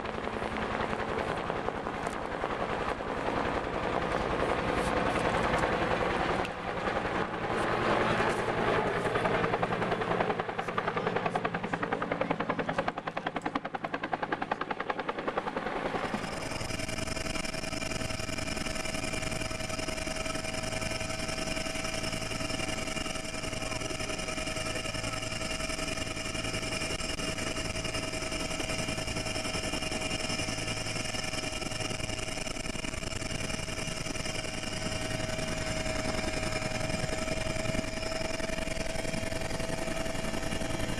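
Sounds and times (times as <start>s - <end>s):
helicopter engine whine inside cabin: 0.0s - 40.9s
helicopter flying past: 0.0s - 40.9s.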